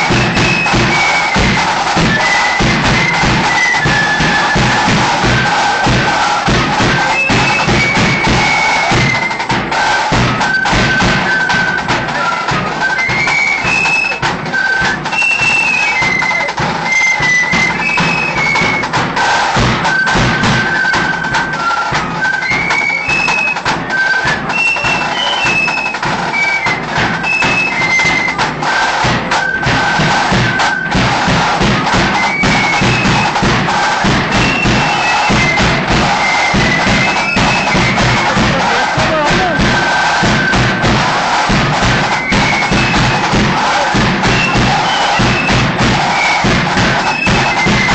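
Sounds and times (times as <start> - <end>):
flute melody: 0.0 - 47.9
snare and bass drum beats: 0.0 - 47.9.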